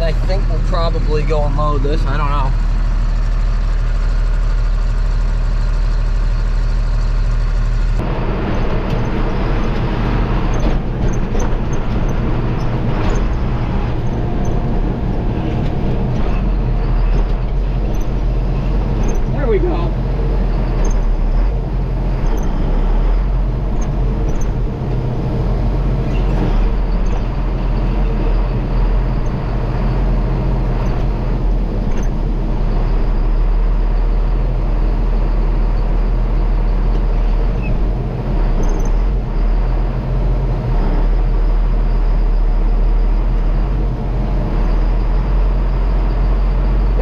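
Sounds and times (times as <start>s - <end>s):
tractor engine droning: 0.0s - 47.0s.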